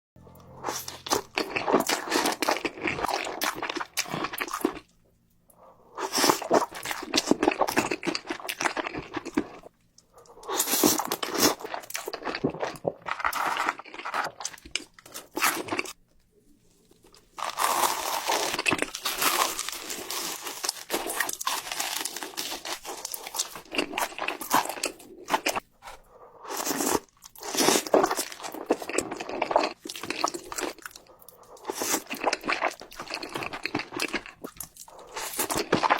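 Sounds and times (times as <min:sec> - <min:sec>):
person crunching and chewing: 0:00.4 - 0:04.9, 0:06.0 - 0:16.0, 0:16.9 - 0:35.9.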